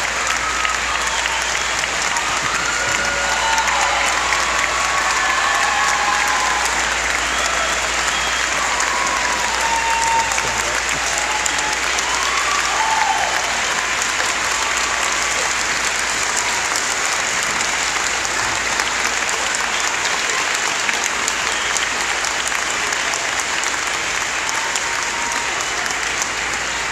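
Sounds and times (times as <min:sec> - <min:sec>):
audience applauding: 0:00.0 - 0:26.9.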